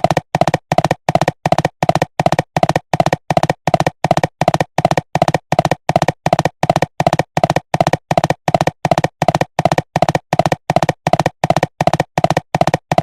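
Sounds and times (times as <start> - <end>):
cartoon hoofbeats galloping: 0.0 - 13.0.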